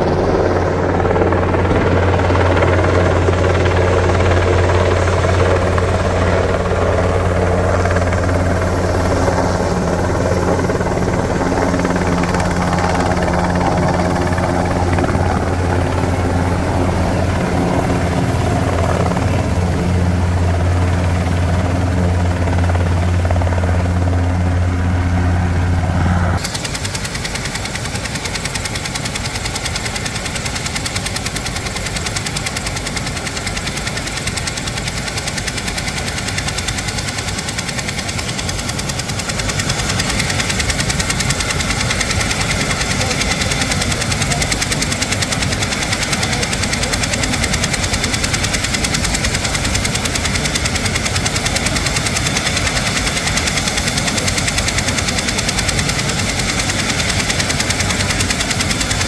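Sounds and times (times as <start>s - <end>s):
helicopter engines and rotor: 0.0s - 59.0s.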